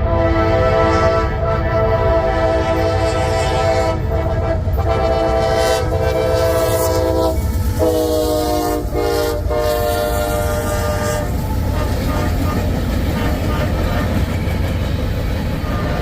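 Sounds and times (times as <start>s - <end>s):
locomotive air horn blasts: 0.0s - 14.3s, 15.6s - 16.0s
freight train rumbling: 0.0s - 16.0s.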